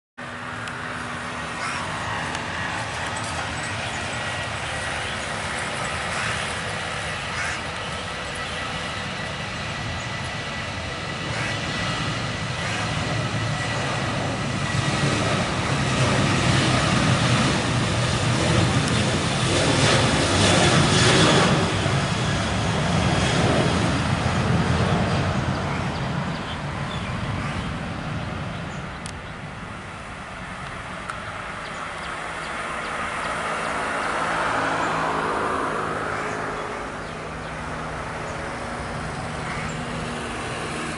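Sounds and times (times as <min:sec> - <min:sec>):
jet engines roaring past: 0:00.2 - 0:40.9.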